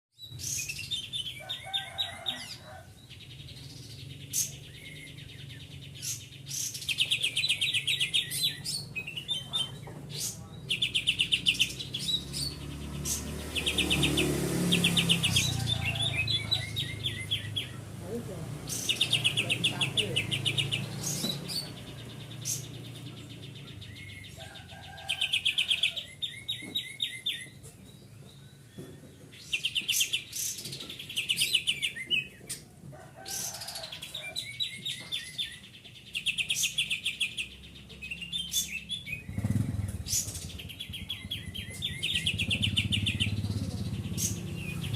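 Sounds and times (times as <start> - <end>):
bird trilling song: 0.2 - 44.9.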